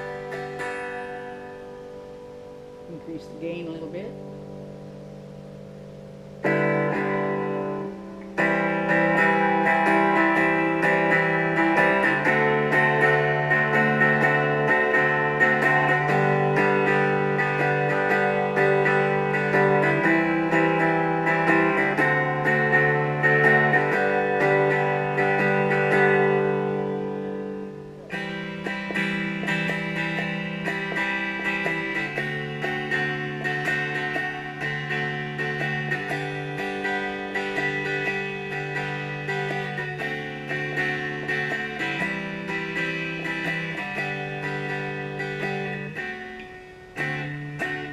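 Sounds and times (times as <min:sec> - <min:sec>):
amplified guitar chords strummed: 0:00.0 - 0:47.9.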